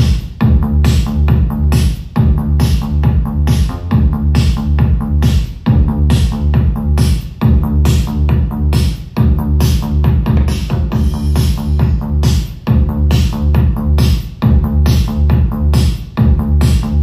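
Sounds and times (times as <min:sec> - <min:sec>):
electronic dance music heavy bass: 0:00.0 - 0:17.0.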